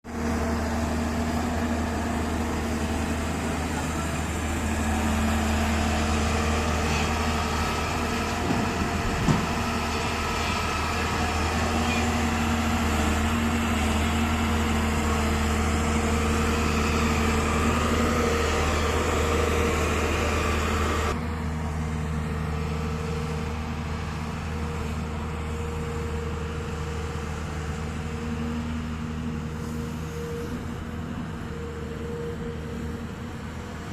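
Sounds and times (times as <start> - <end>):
diesel engine humming: 0.0 - 33.9.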